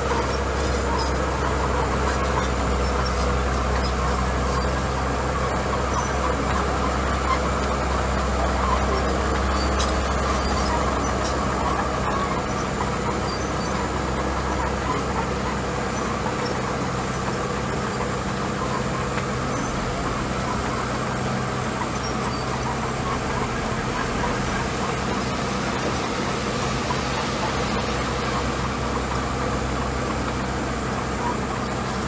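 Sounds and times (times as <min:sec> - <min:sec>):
bulldozer diesel engine droning: 0:00.0 - 0:32.0.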